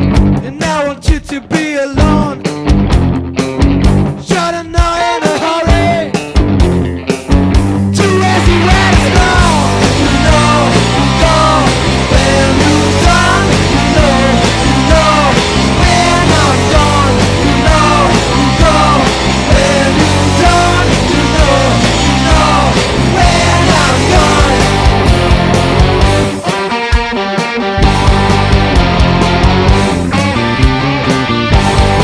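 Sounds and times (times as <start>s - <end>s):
rock band playing fast: 0.0s - 32.0s.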